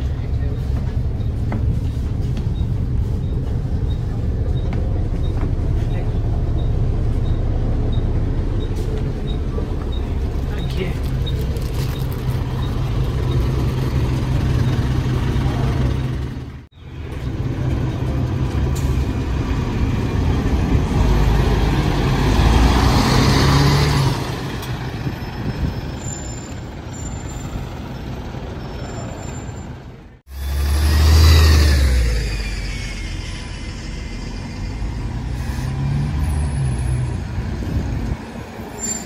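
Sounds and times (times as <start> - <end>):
bus diesel engine: 0.0 - 39.0.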